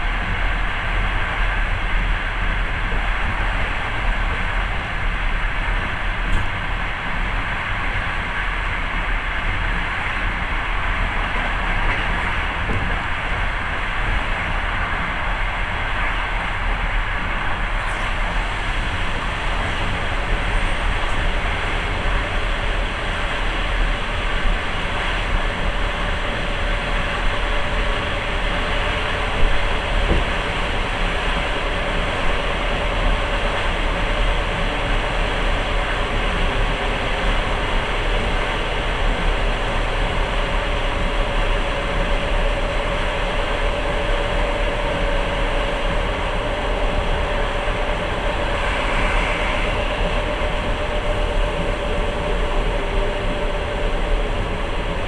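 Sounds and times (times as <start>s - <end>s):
faint steady hum: 0.0s - 55.0s
train wheels rumbling and rattling: 0.0s - 55.0s.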